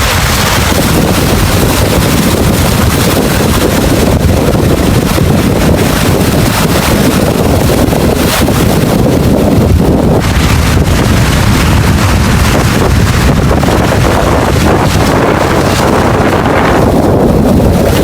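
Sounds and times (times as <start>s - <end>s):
heavy seas: 0.0s - 18.0s
strong wind on microphone: 0.0s - 18.0s.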